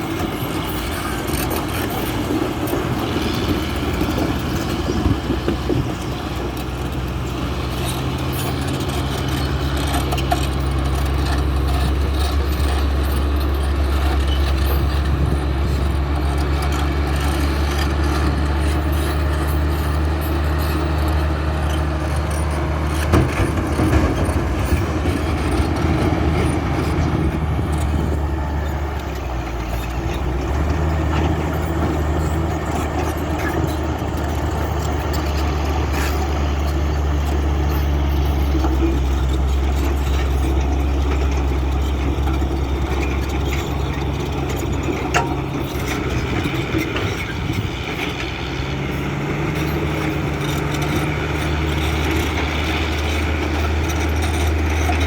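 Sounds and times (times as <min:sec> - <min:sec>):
heavy machinery diesel engines droning: 0:00.0 - 0:55.0.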